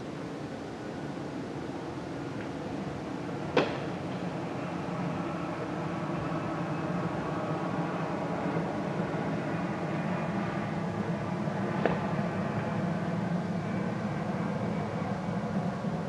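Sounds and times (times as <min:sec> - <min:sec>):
airplane rumble overhead: 0:00.0 - 0:16.0.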